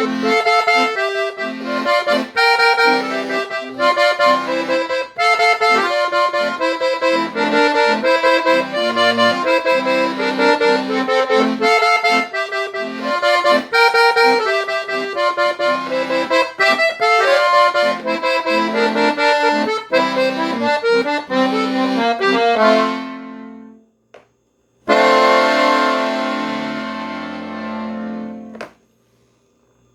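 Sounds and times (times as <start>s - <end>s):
accordion playing: 0.0s - 23.8s, 24.9s - 28.8s.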